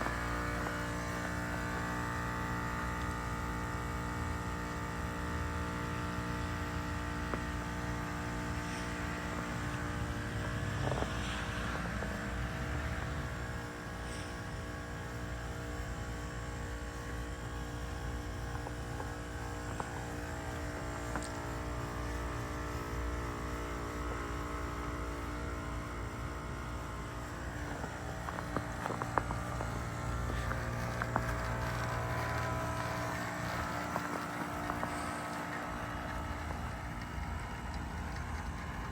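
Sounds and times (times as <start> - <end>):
heat pump compressor hum: 0.0 - 38.9.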